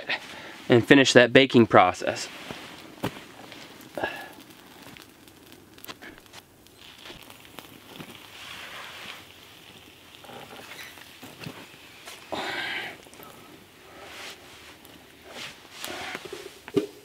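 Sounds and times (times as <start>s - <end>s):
fish searing on coals: 0.0s - 17.0s.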